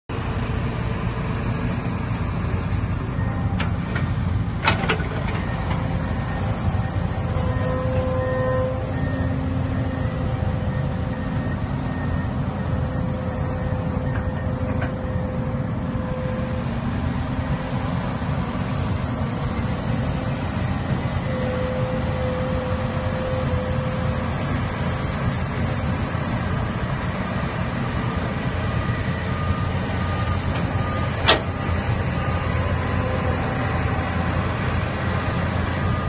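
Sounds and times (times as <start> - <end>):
bulldozer diesel engine rumbling: 0.1 - 36.0.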